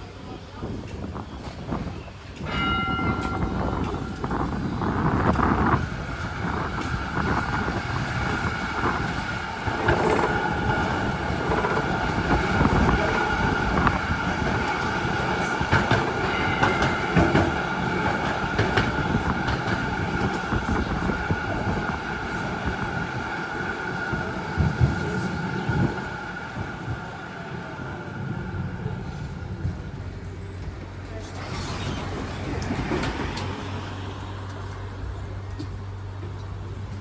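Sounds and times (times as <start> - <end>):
tram wheels rumbling on rail: 0.0 - 37.0.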